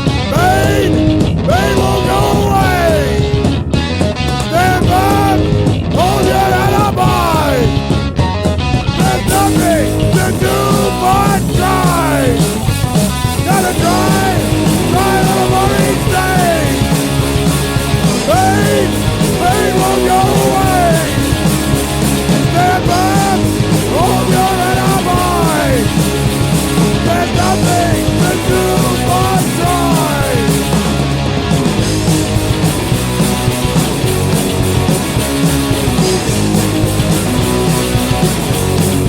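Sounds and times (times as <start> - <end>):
bass and drums: 0.0 - 39.0
bending guitar lead line: 0.0 - 39.0
distorted electric guitars: 0.0 - 39.0.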